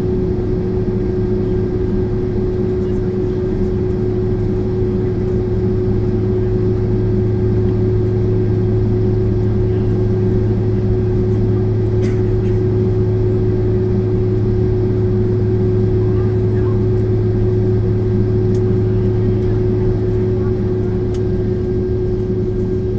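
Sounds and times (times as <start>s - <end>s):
jet engine and airflow rush: 0.0s - 22.9s
low hum: 0.0s - 22.9s.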